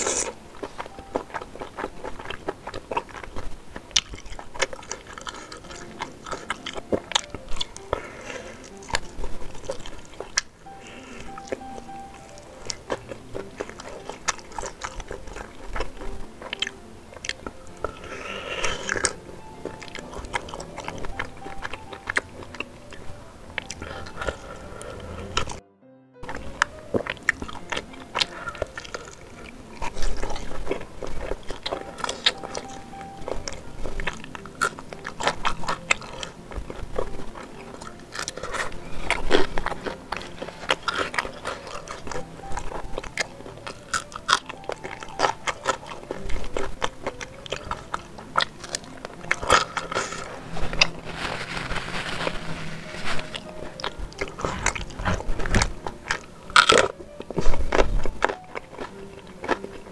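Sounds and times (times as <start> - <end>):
wet chewing and biting: 0.0 - 25.6, 26.2 - 59.9.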